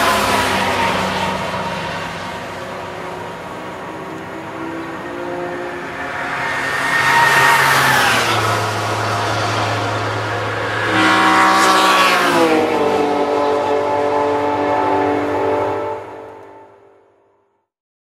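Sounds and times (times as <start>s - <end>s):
engine note underneath: 0.0s - 17.1s
racing cars passing at high speed: 0.0s - 17.3s.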